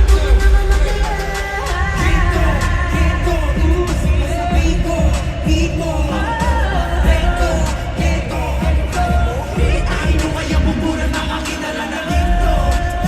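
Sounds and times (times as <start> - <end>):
backing track with heavy bass: 0.0 - 13.0
men singing: 0.0 - 13.0.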